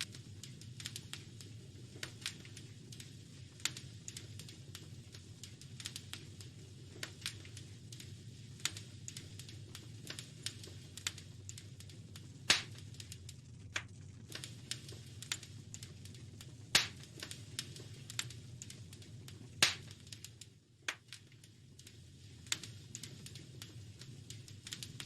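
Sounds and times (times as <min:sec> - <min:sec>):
low steady rumble: 0:00.0 - 0:25.0
wood fire crackling and popping: 0:00.0 - 0:25.0.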